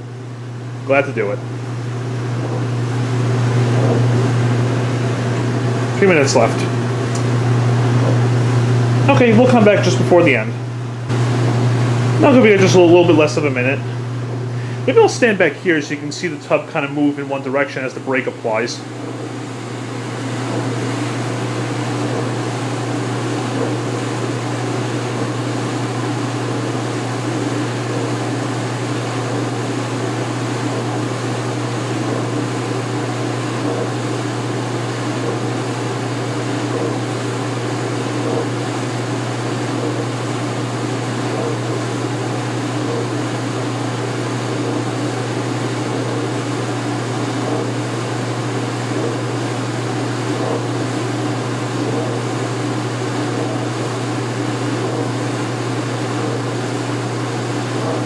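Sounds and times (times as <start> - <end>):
washing machine spinning hum: 0.0 - 58.0.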